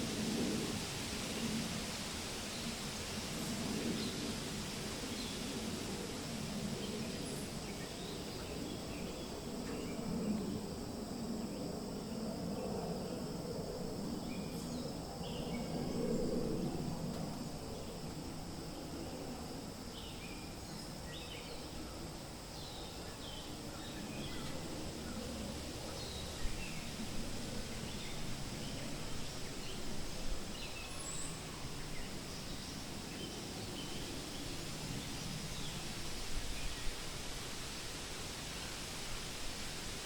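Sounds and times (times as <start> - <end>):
wind rustling leaves: 0.0 - 40.0.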